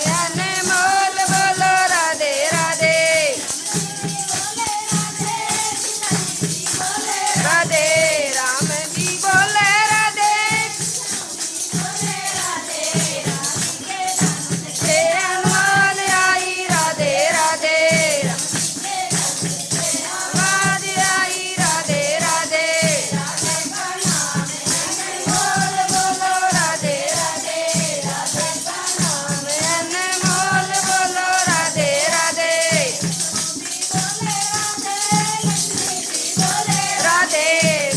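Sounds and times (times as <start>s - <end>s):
jingling tambourine percussion: 0.0s - 37.9s
person singing devotional song: 0.0s - 37.9s
steady drum beat: 0.0s - 37.9s.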